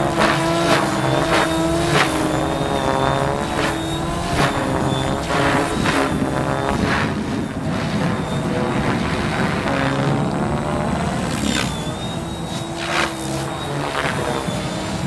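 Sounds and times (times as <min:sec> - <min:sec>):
rc helicopter motor whine: 0:00.0 - 0:15.0
rotor blades whooshing: 0:00.0 - 0:15.0.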